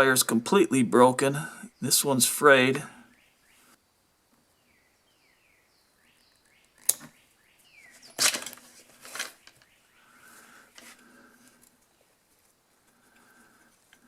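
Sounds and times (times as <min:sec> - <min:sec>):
small birds chirping: 0:01.2 - 0:03.8, 0:04.4 - 0:14.0.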